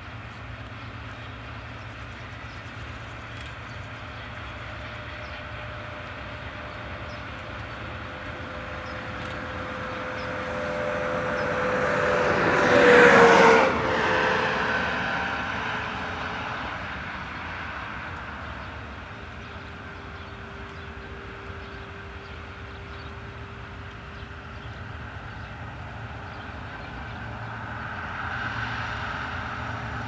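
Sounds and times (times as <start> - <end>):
freight train rumbling: 0.0 - 30.0
rushing train pass-by: 0.0 - 30.0.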